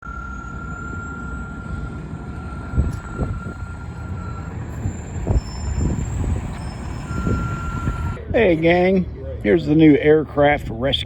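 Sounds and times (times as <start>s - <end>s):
high whine: 0.0s - 11.0s
truck engine rumbling: 0.0s - 11.0s.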